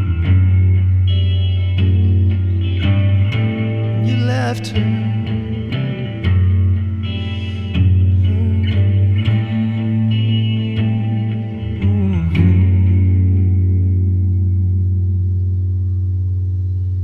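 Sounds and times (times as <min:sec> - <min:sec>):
guitar-led rock band playing: 0:00.0 - 0:15.1.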